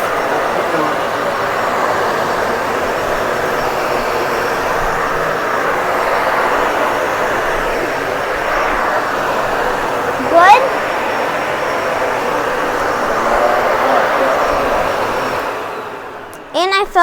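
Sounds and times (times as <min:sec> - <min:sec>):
vacuum cleaner running over rug: 0:00.0 - 0:17.0.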